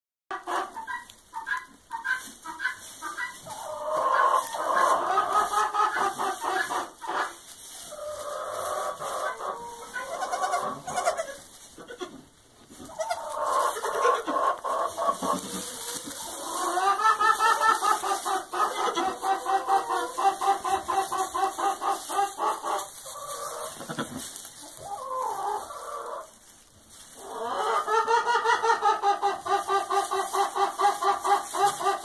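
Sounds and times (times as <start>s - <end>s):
barnyard animals calling: 0.3s - 32.0s.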